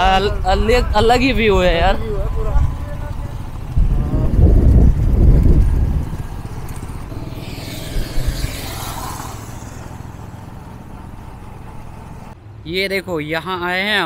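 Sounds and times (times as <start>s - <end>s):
motorcycle engine rumble: 0.0s - 12.4s.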